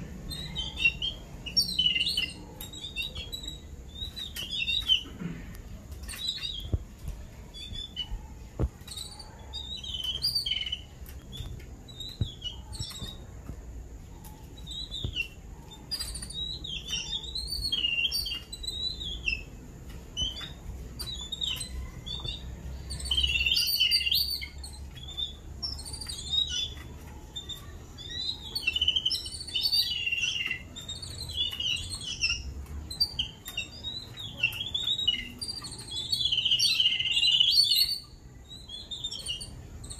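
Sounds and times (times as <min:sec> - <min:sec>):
babblers chattering: 0:00.0 - 0:39.9.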